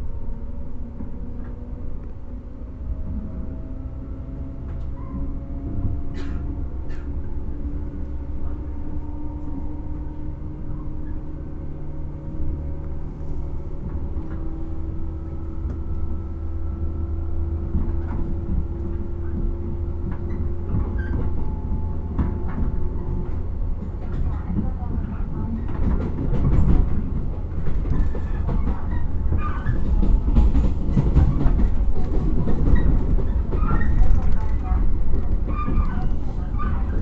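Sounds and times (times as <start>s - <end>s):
train rumble and motor hum: 0.0s - 37.0s.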